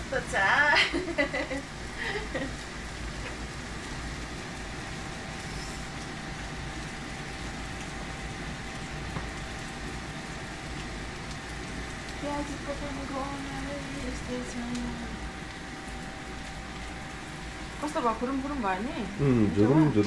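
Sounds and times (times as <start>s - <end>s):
faint steady whine: 0.0s - 20.0s.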